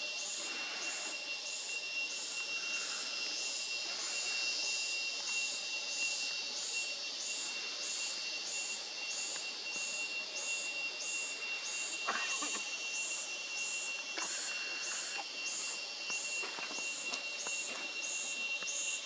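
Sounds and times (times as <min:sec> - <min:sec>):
insects whining: 0:00.0 - 0:19.0
sharp high insect chirp: 0:00.0 - 0:19.0.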